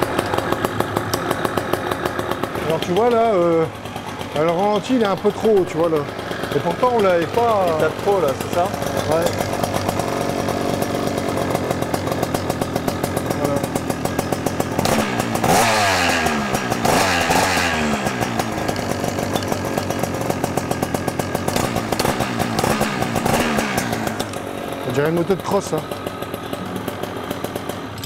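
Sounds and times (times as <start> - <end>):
paramotor engine idling and revving: 0.0 - 28.0.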